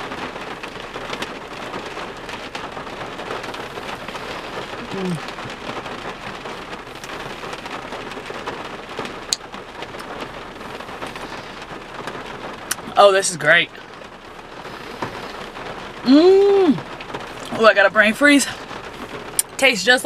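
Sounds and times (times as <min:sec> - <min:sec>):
rain pattering on a car roof: 0:00.0 - 0:20.0.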